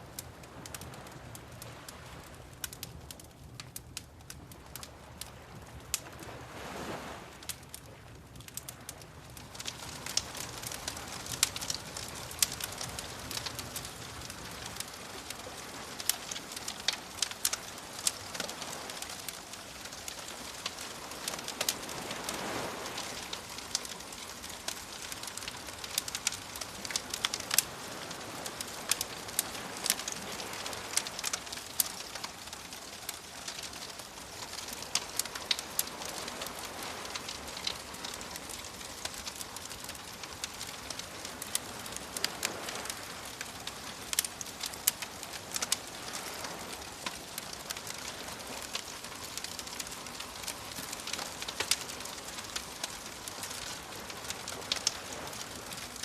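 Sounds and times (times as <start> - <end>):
waves washing in: 0.0 - 3.5, 4.5 - 56.0
wood fire crackling: 0.0 - 56.0.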